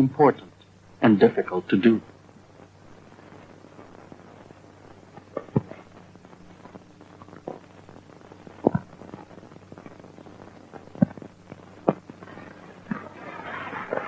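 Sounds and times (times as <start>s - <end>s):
low hum and hiss: 0.0s - 14.0s.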